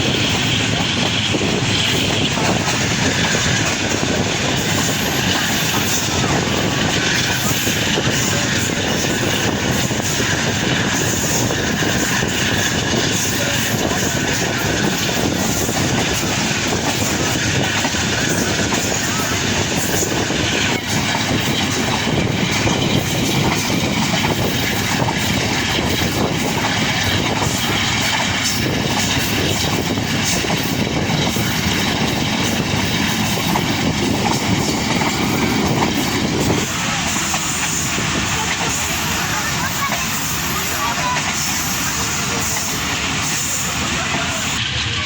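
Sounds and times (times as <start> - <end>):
train wheels on rails: 0.0 - 45.0.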